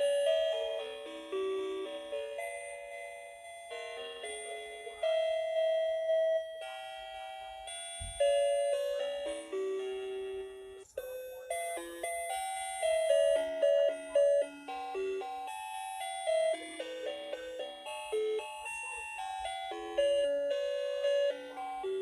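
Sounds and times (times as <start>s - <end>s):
electronic toy tune: 0.0s - 22.0s.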